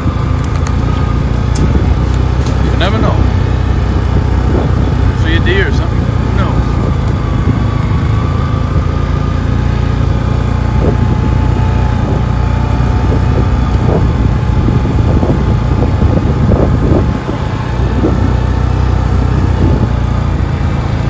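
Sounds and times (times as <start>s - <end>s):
atv engine running: 0.0s - 21.0s
thin steady whine: 0.0s - 21.0s.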